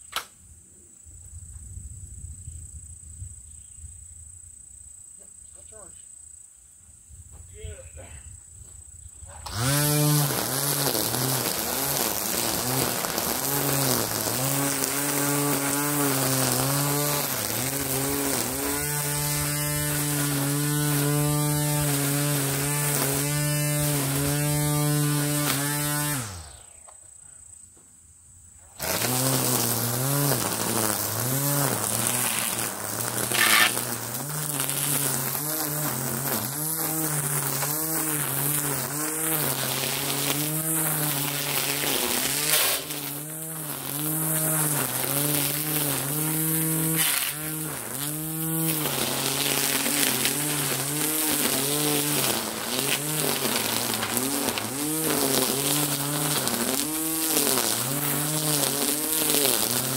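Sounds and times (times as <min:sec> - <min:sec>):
string trimmer cutting grass: 0:09.3 - 0:26.8, 0:28.6 - 0:59.9
trimmer strike: 0:09.3 - 0:26.8, 0:28.7 - 0:59.9.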